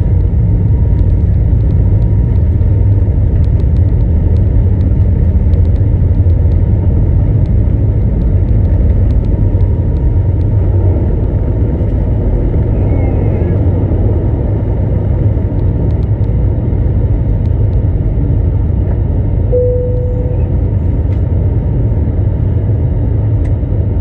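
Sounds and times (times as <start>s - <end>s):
jet engine and airflow rumble: 0.0s - 24.0s.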